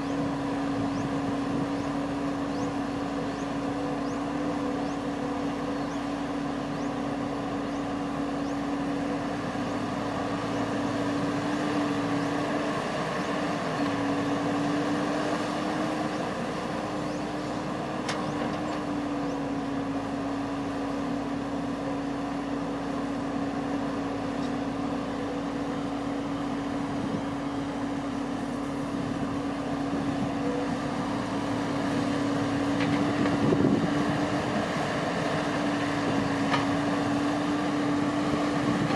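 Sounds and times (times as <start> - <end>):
harvester engine droning: 0.0 - 38.9.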